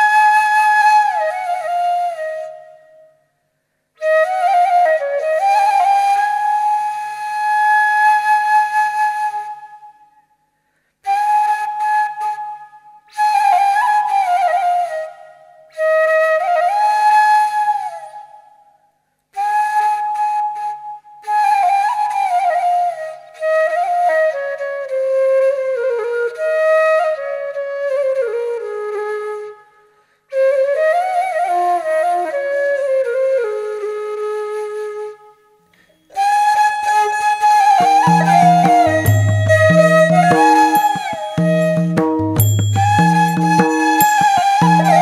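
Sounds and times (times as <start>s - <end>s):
slow solo flute melody: 0.0s - 3.4s, 4.0s - 10.4s, 11.0s - 45.0s.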